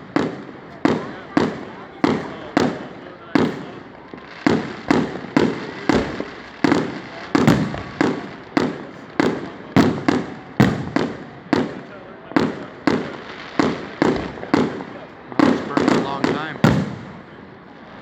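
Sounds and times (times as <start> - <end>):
fireworks booming with echo: 0.0 - 18.0.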